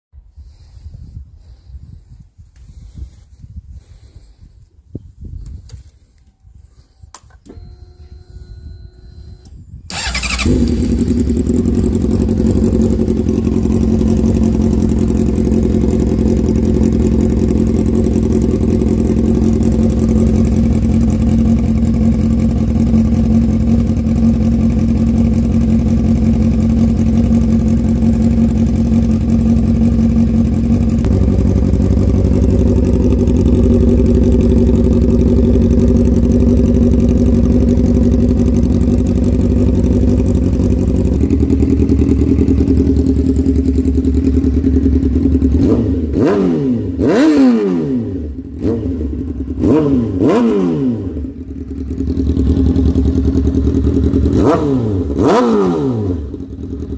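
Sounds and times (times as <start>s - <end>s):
motorcycle engine idling loudly: 9.2s - 56.9s.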